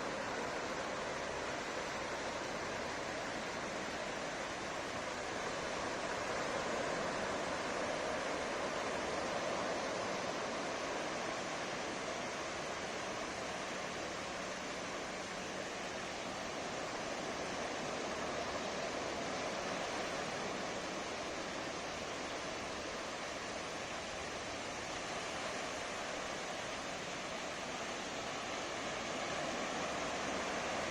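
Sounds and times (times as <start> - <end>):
waves breaking on beach: 0.0 - 30.9.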